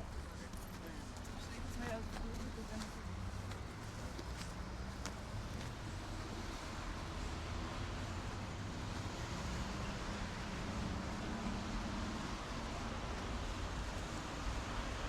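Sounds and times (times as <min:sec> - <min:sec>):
city traffic rumble and hiss: 0:00.0 - 0:15.0.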